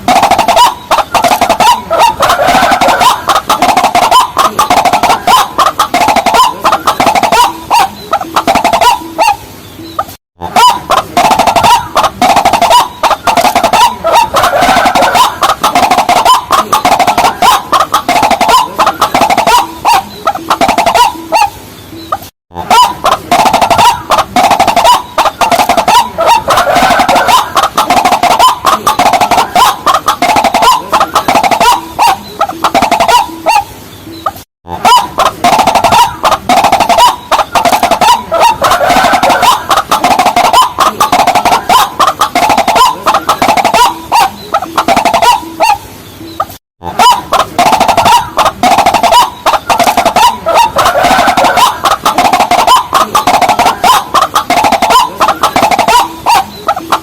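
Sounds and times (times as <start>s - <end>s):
rapid hooked bird calls: 0.0s - 57.0s.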